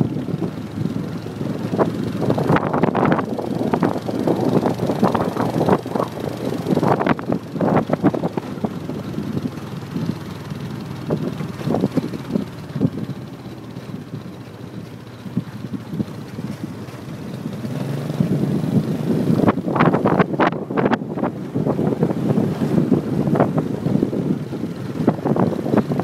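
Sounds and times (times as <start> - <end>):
motorbike riding rumble: 0.0 - 26.0
wind buffeting microphone: 0.0 - 26.0.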